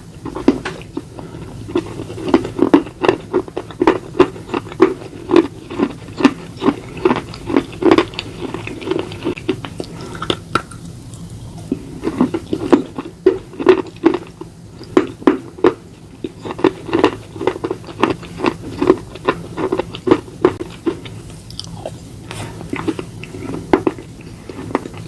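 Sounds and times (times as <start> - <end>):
chewing brittle crunches: 0.2 - 22.0, 22.6 - 25.0.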